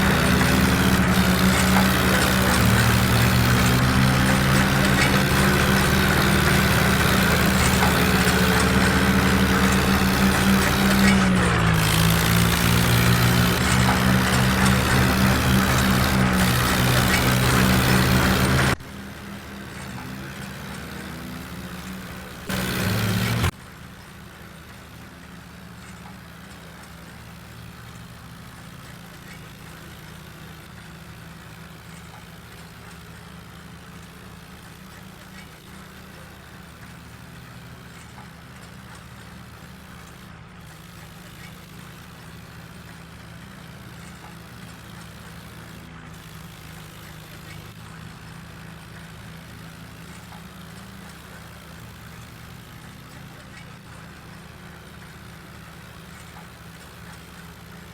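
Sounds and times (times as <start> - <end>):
tractor engine idling: 0.0 - 57.9.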